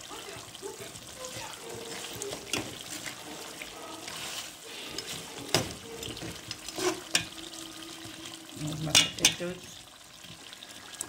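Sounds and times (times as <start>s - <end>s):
bubbling curry hissing: 0.0s - 11.0s.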